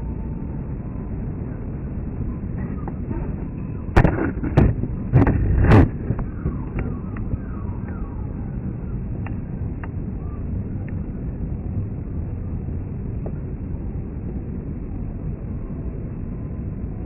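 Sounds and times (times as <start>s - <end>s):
jet aircraft rumble: 0.0s - 17.0s.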